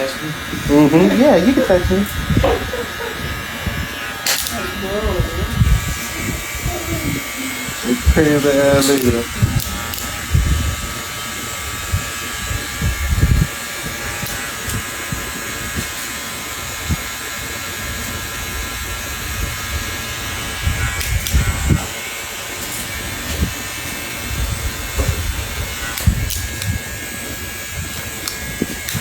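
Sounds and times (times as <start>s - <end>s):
electric hair clippers buzzing: 0.0s - 29.0s.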